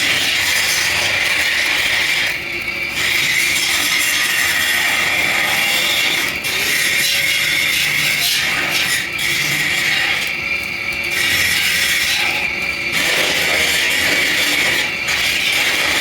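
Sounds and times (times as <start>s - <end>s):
rasping scraping of metal: 0.0s - 10.4s, 11.1s - 16.0s.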